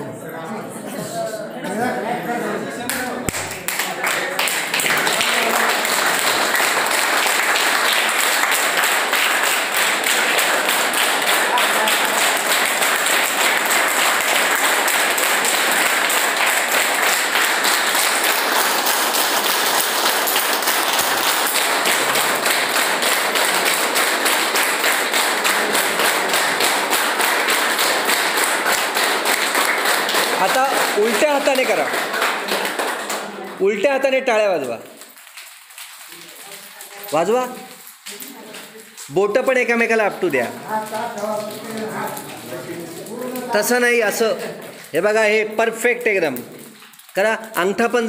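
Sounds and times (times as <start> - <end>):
group of people clapping: 2.8 - 48.0.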